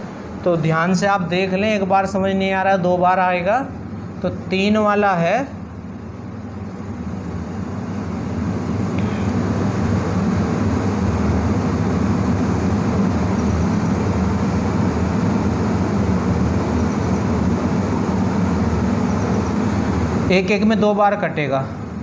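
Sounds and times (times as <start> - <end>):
mechanical engine rumble: 0.0 - 22.0.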